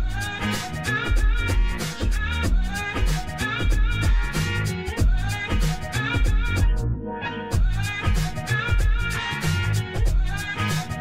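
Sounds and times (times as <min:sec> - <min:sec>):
upbeat music with strong bass: 0:00.0 - 0:11.0.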